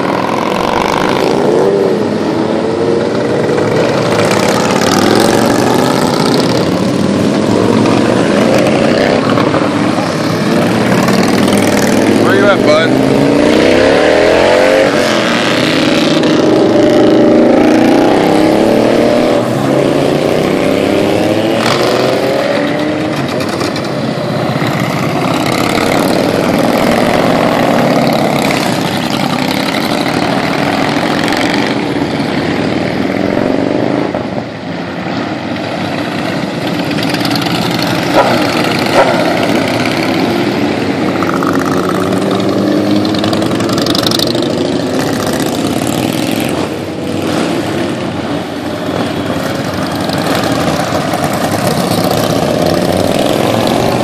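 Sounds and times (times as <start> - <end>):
motorcycles riding past: 0.0 - 54.0.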